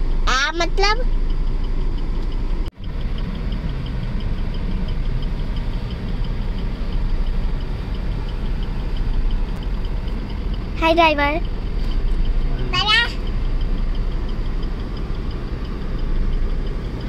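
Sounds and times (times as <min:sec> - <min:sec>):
car engine idling: 0:00.0 - 0:17.0
faint even ticking: 0:00.0 - 0:17.0.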